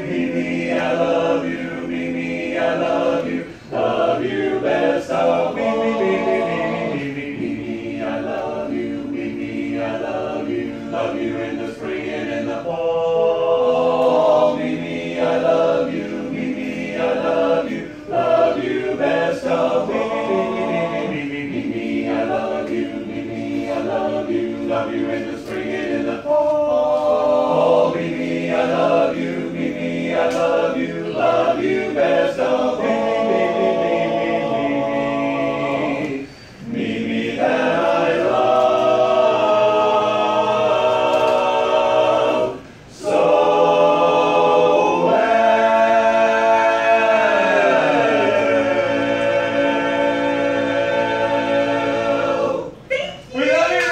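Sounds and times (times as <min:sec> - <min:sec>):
men's chorus singing a cappella: 0:00.0 - 0:53.9.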